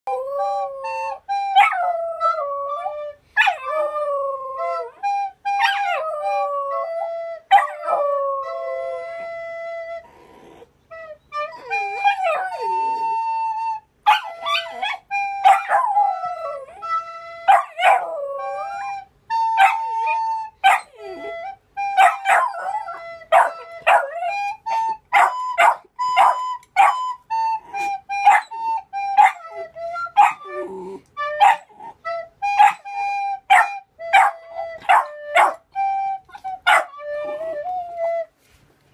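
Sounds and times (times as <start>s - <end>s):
puppy howling: 0.1s - 9.2s, 11.4s - 13.3s, 14.1s - 37.9s
recorder playing notes: 0.1s - 10.1s, 10.8s - 38.7s.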